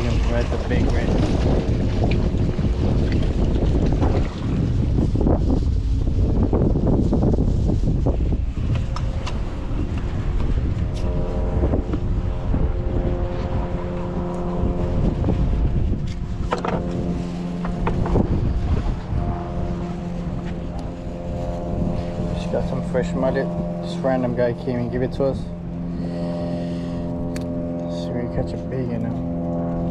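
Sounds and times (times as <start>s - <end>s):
engine hum: 0.0s - 29.9s
wind buffeting microphone: 0.0s - 29.9s.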